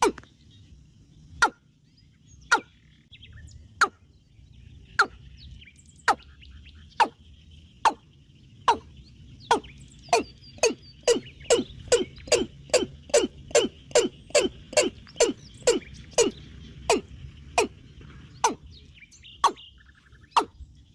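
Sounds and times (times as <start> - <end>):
bird chirping: 0.0 - 20.9
faint high insect chorus: 0.0 - 20.9.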